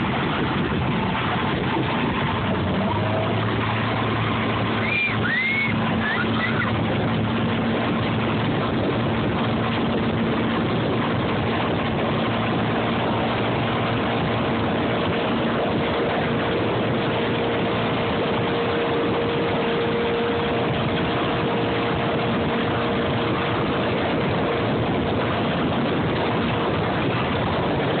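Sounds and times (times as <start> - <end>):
motorboat engine running: 0.0 - 28.0
water rushing from wake: 0.0 - 28.0.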